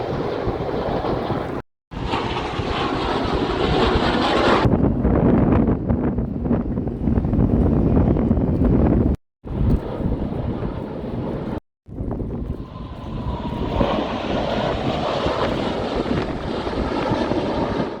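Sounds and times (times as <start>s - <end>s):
airplane flying over: 0.0s - 18.0s
wind rumbling on microphone: 0.0s - 18.0s.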